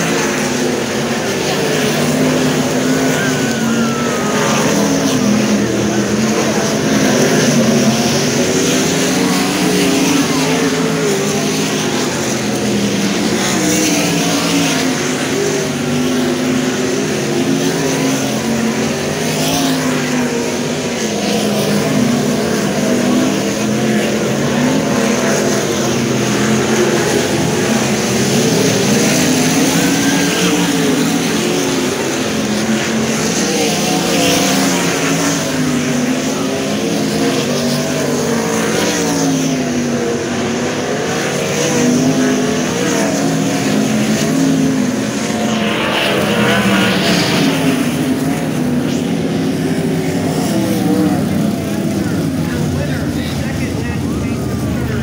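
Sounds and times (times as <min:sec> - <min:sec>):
race car engines roaring: 0:00.0 - 0:55.0.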